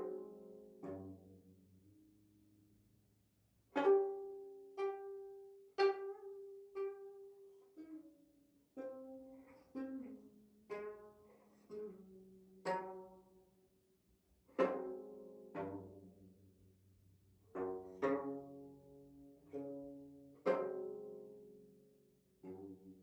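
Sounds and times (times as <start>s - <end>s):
plucked zither strings: 0.0s - 2.1s, 3.7s - 13.4s, 14.5s - 16.4s, 17.5s - 23.0s.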